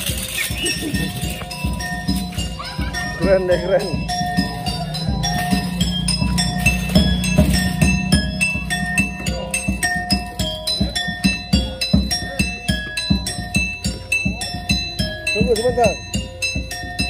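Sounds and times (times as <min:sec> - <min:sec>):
bell-like chiming melody: 0:00.0 - 0:17.0
steady beat: 0:00.0 - 0:17.0.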